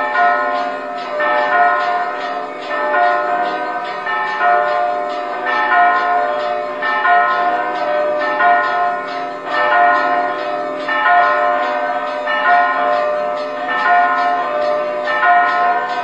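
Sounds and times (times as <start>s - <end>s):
large church bell ringing: 0.0s - 16.0s.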